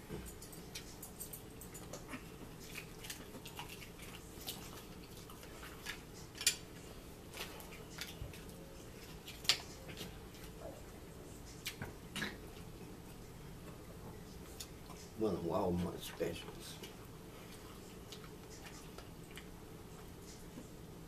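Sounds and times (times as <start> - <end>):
chewing: 0.1 - 15.2, 16.7 - 20.8.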